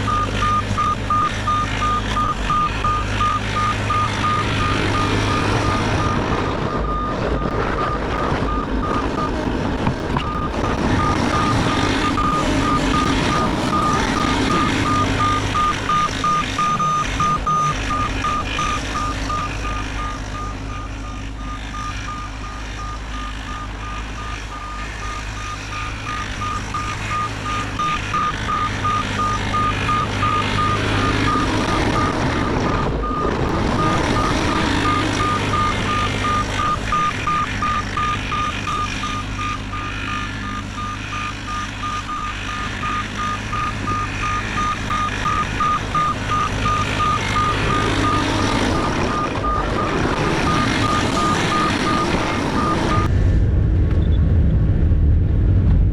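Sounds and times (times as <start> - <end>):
excavator travel alarm beeping: 0.0 - 53.1
diesel engine hum: 0.0 - 55.9.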